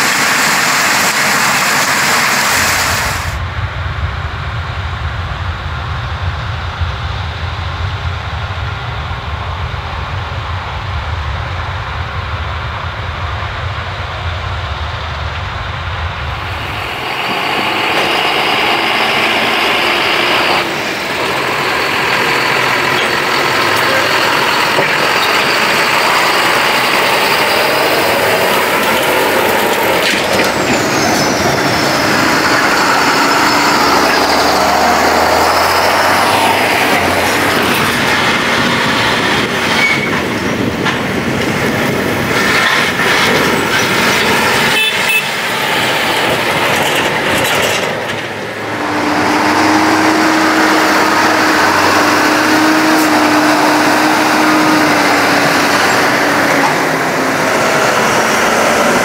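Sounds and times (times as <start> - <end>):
heavy farm machinery running: 0.0 - 59.0.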